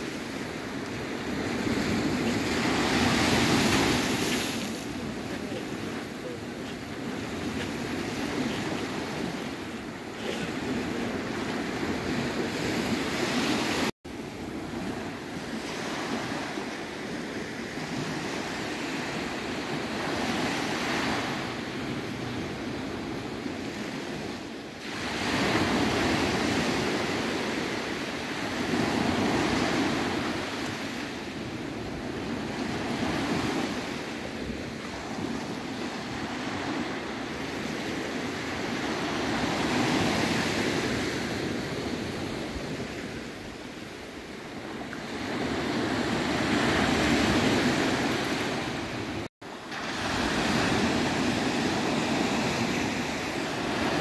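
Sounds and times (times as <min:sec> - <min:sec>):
waves washing up sandy beach: 0:00.0 - 0:54.0.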